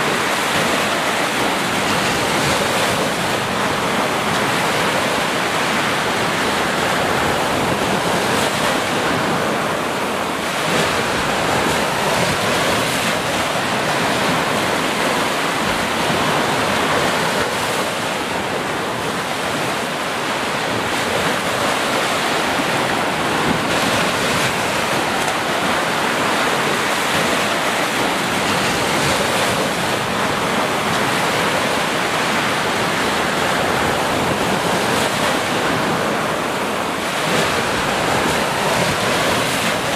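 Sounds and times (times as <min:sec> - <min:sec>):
ocean surf on sandy beach: 0:00.0 - 0:39.9.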